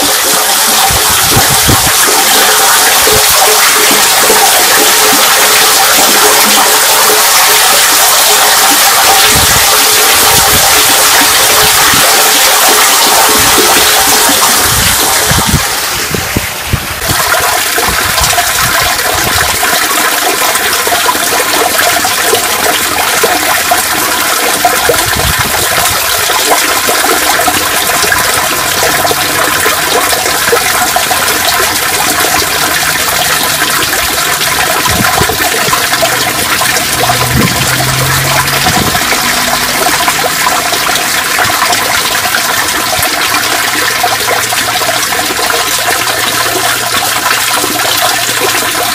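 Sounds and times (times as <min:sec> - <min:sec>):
water gushing into street drain: 0:00.0 - 0:48.9.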